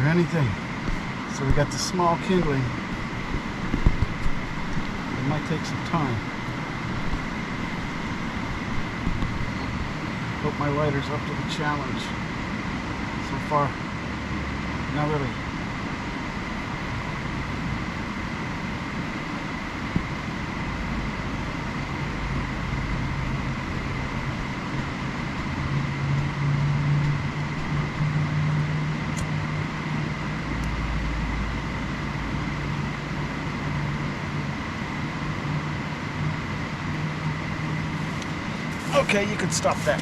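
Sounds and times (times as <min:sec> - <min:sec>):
low hum: 0:00.0 - 0:40.0
outdoor rumble and hiss: 0:00.0 - 0:40.0.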